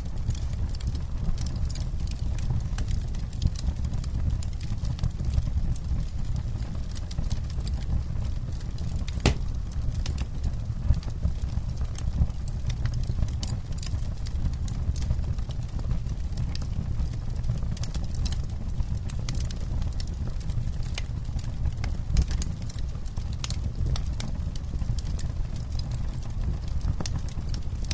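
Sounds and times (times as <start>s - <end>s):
campfire crackling and popping: 0.0s - 27.9s
low rumble of flames: 0.0s - 27.9s.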